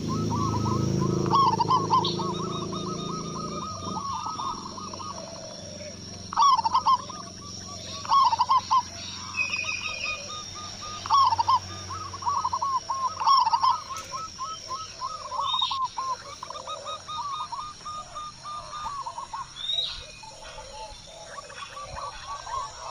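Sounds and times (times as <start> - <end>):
dove cooing: 0.0 - 22.9.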